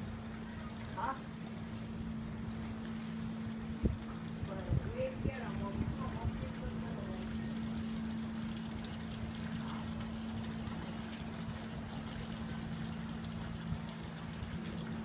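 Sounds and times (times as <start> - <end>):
river water trickling: 0.0 - 15.0
steady low hum: 0.0 - 15.0.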